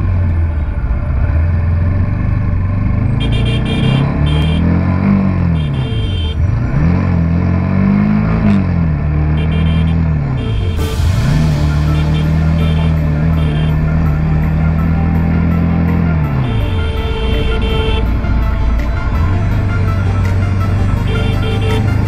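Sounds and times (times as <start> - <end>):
heavy traffic drone: 0.0 - 22.0
motorcycle engine revving: 0.0 - 22.0.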